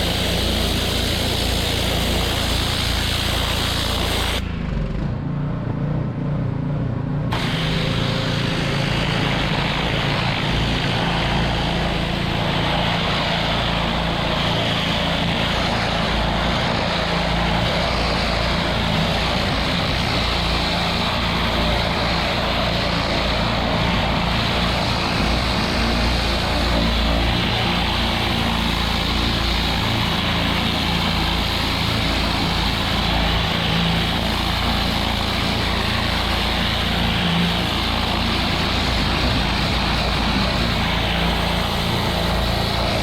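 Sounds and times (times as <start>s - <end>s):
water jet hiss: 0.0s - 4.4s, 7.4s - 43.0s
pressure washer engine drone: 0.0s - 43.0s.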